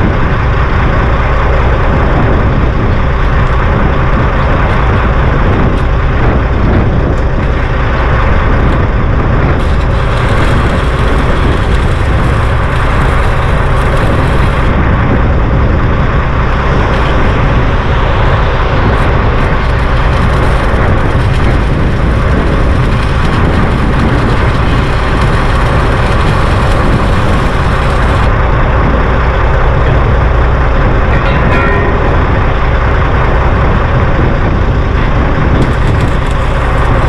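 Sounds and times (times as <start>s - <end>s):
heavy engine running: 0.0s - 37.0s.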